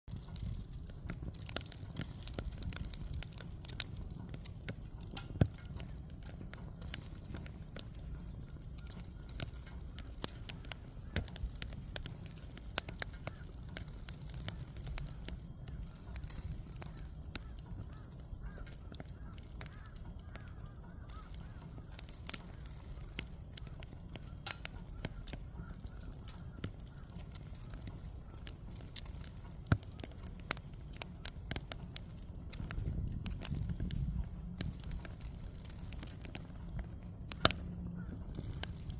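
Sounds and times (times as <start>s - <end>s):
firewood burning and crackling: 0.0s - 38.9s.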